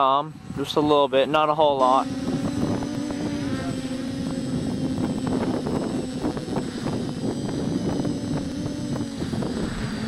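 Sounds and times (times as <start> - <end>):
quadcopter motors humming: 0.0 - 10.0
wind crackle on microphone: 1.8 - 10.0.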